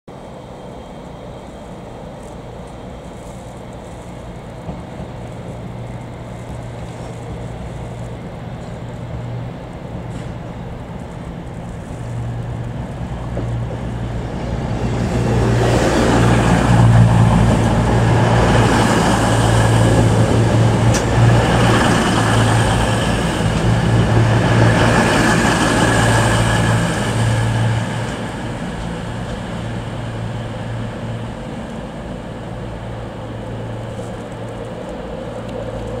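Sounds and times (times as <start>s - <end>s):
diesel train engines humming: 0.1s - 36.0s.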